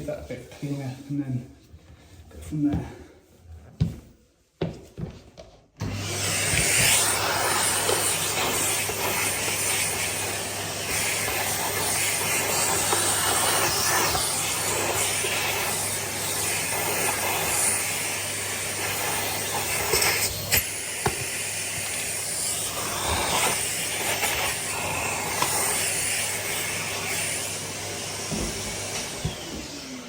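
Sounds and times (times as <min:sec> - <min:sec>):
vacuum cleaner running: 0:05.8 - 0:30.0.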